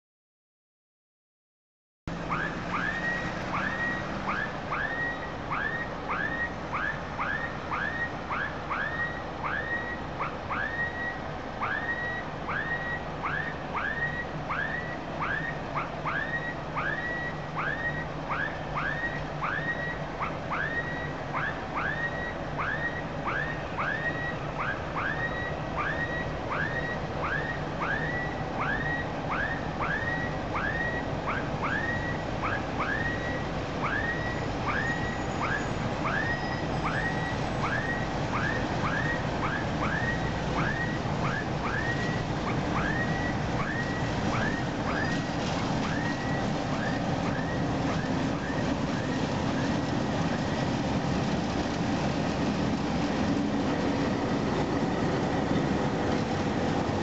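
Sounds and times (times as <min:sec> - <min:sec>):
level crossing alarm tone: 0:02.2 - 0:50.7.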